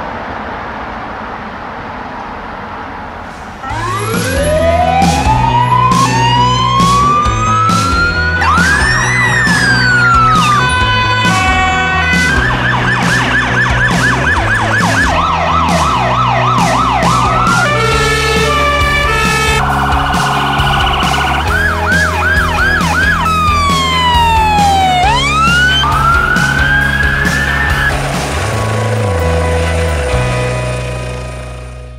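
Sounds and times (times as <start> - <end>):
emergency vehicle sirens: 0.0 - 30.9
low music beat: 3.7 - 31.1.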